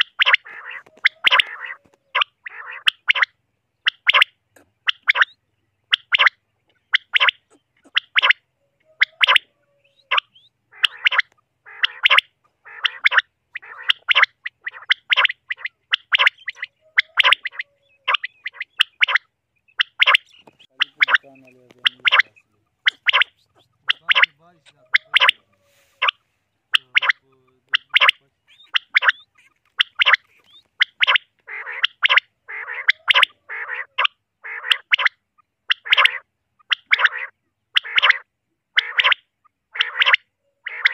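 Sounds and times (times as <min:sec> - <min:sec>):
quail calling: 0:00.0 - 0:40.9
raspy gargling bird calls: 0:00.0 - 0:40.9.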